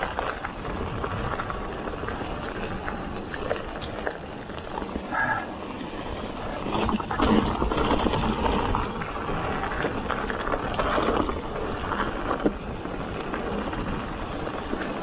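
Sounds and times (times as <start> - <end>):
bike tyres rattling over dirt: 0.0 - 15.0.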